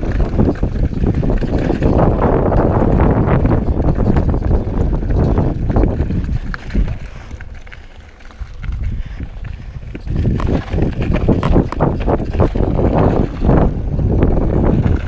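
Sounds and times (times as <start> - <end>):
mountain bike rattling over rocks: 0.0 - 15.0
wind buffeting microphone: 0.0 - 15.0.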